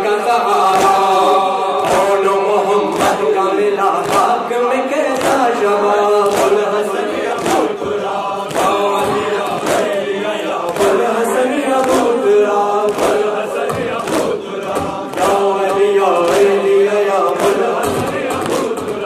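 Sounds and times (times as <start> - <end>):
crowd of men chanting: 0.0 - 19.0
man singing into a microphone: 0.0 - 19.0.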